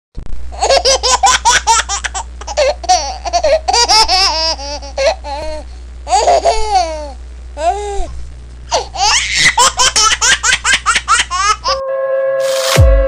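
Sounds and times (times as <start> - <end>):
steady low hum: 0.2 - 11.9
young child laughing: 0.6 - 8.1, 8.7 - 11.8.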